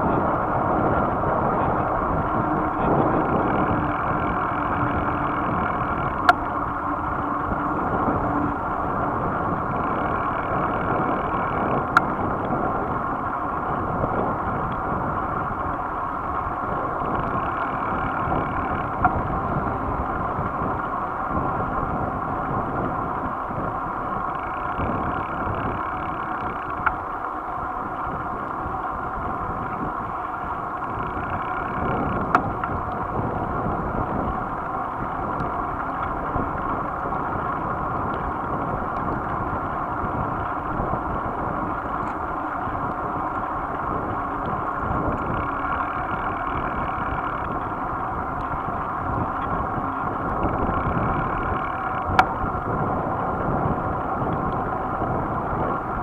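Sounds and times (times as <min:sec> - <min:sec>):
road rumble: 0:00.0 - 0:56.0
wind buffeting: 0:00.0 - 0:56.0.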